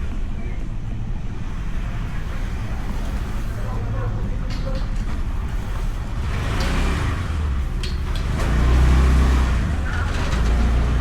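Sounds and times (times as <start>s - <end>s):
motorbike engine and road rumble: 0.0s - 11.0s.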